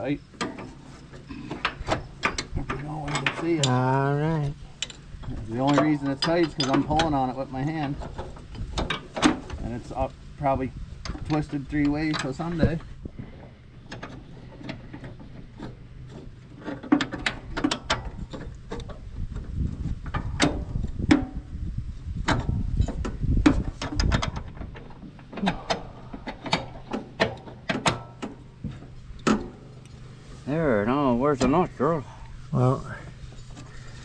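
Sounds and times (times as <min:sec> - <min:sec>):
metal clicks and clanks: 0:00.0 - 0:03.9, 0:04.7 - 0:09.8, 0:11.0 - 0:21.5, 0:22.2 - 0:30.0.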